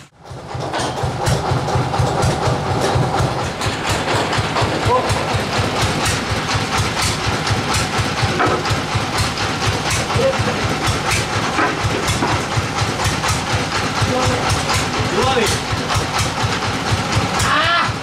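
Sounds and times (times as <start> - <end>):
engine idling with pulsing beat: 0.0 - 18.0.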